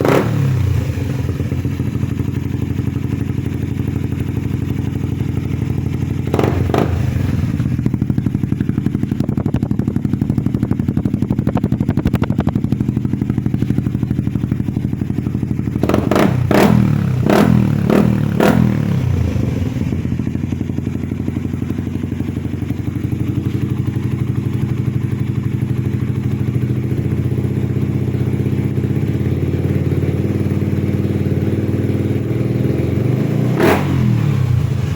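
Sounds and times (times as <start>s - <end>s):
motorcycle idling and revving: 0.0s - 34.9s.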